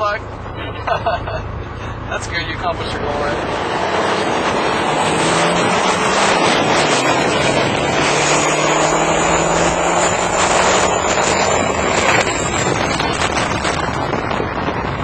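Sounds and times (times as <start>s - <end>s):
high steady turbo whine: 0.0s - 15.0s
pickup truck engine running hard: 0.0s - 15.0s
wind and road noise: 0.0s - 15.0s.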